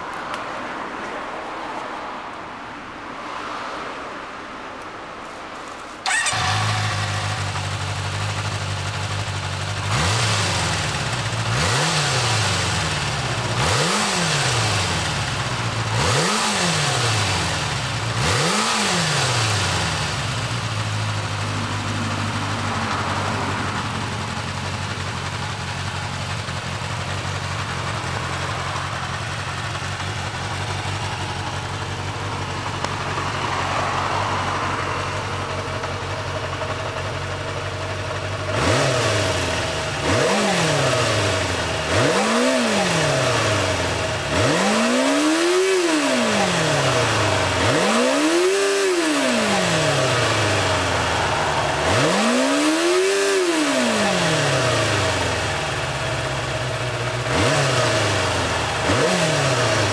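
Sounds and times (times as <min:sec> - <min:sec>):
motorcycle engine idling and revving: 0:00.0 - 0:01.1, 0:05.6 - 0:59.9.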